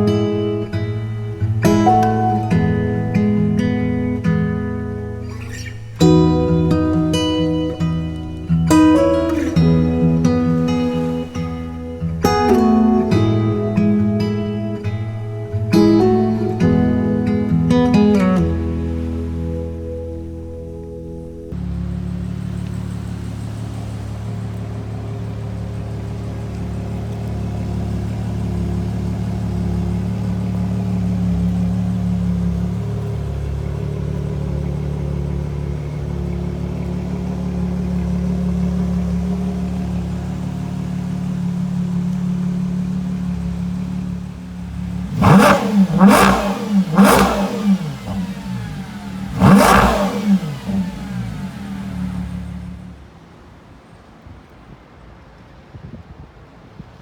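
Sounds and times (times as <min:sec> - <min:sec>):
car engine idling and revving: 0:00.0 - 0:55.2.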